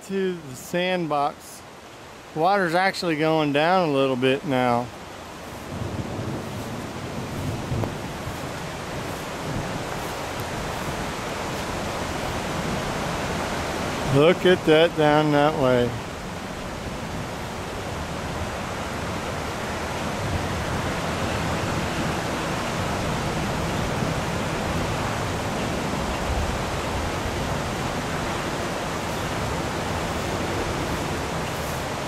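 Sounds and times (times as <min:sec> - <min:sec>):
floodwater rushing: 0:00.0 - 0:32.0.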